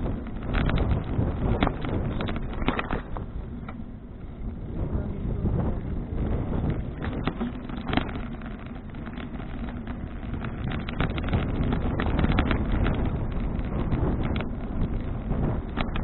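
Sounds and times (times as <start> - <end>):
bicycle clicks and rattles: 0.0 - 16.0
low rumble: 0.0 - 16.0
wind buffeting microphone: 0.0 - 16.0.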